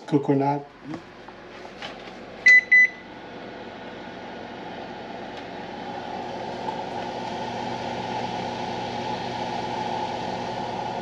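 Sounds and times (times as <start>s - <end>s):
oven fan whirring: 0.0s - 11.0s.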